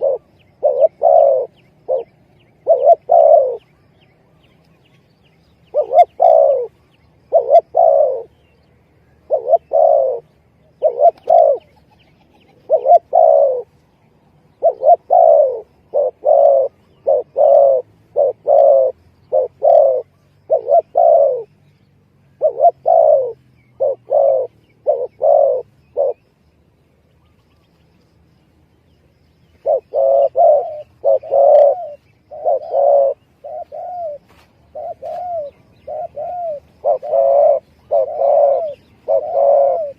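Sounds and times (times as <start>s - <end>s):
dove cooing: 0.0s - 4.4s, 5.6s - 13.8s, 14.5s - 21.6s, 22.2s - 26.4s, 29.5s - 39.9s.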